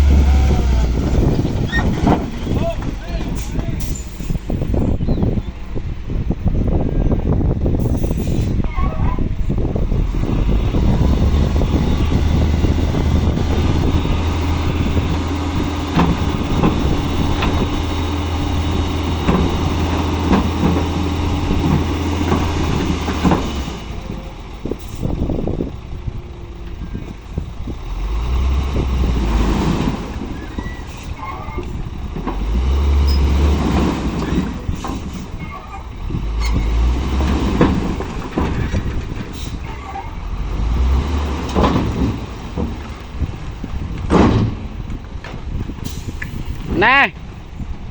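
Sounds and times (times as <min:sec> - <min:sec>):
diesel engine drone: 0:00.0 - 0:47.9
engine surges: 0:00.0 - 0:47.9.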